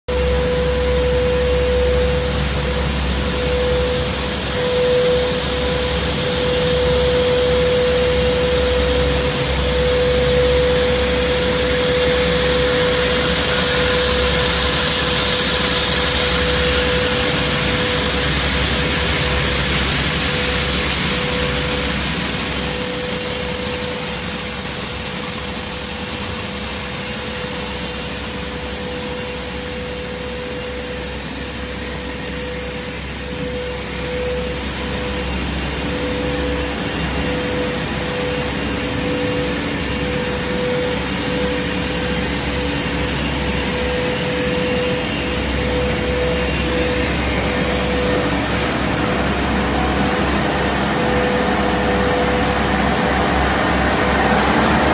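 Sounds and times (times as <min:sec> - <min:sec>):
low machine hum: 0:00.1 - 0:54.9
machine hiss: 0:00.1 - 0:54.9
pulsing machine whine: 0:00.1 - 0:54.9.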